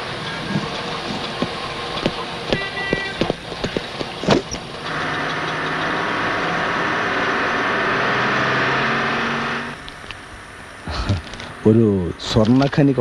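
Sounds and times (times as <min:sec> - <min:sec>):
van engine running: 0:00.0 - 0:12.4.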